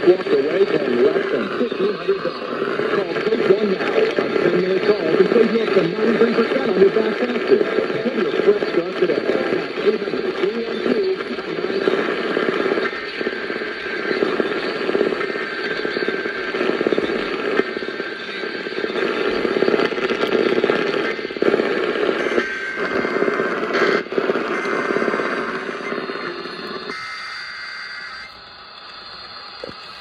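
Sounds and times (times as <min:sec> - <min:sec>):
hissy crackling radio static: 0:00.0 - 0:30.0.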